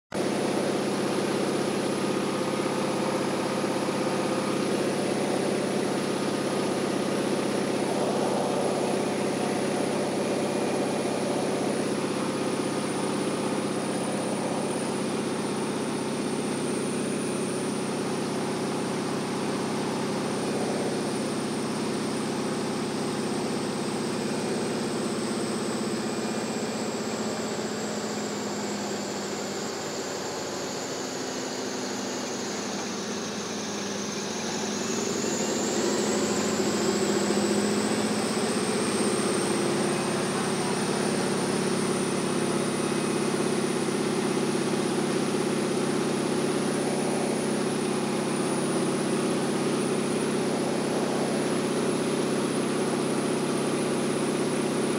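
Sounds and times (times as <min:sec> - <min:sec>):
radial engine and propeller: 0:00.1 - 0:54.9.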